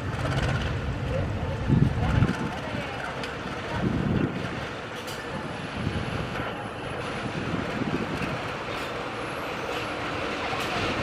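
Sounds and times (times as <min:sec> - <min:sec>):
diesel locomotive running: 0:00.0 - 0:11.0.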